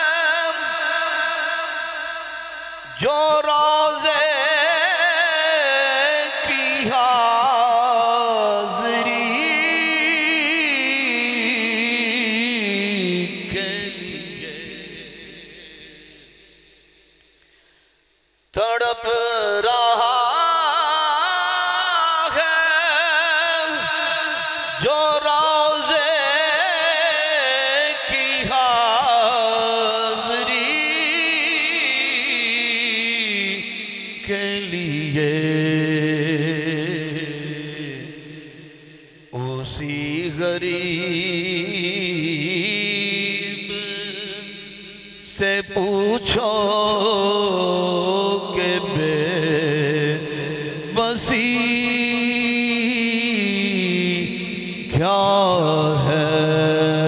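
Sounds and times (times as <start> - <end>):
man singing unaccompanied: 0.0 - 16.4, 18.5 - 57.0.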